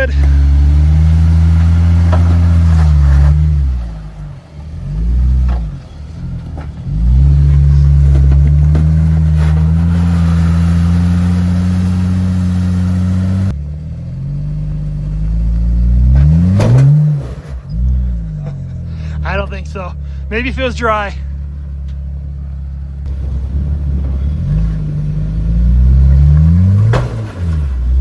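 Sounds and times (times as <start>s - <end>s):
engine revving: 0.0s - 28.0s.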